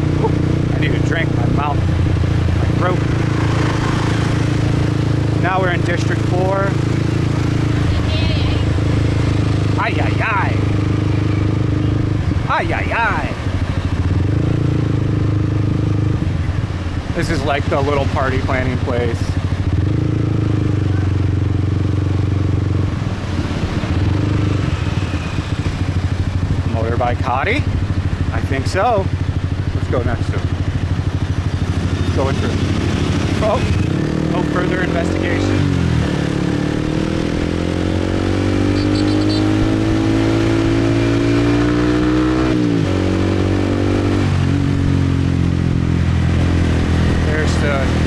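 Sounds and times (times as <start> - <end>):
motorbike engine cruising: 0.0 - 48.0.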